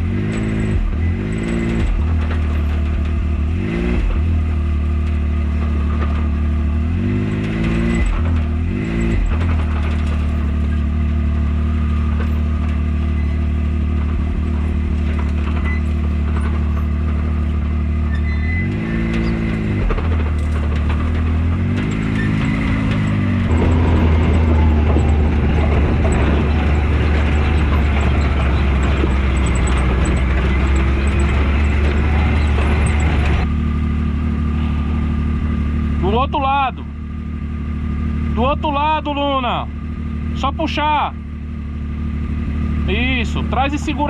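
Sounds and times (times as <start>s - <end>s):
engine running and revving: 0.0s - 44.0s.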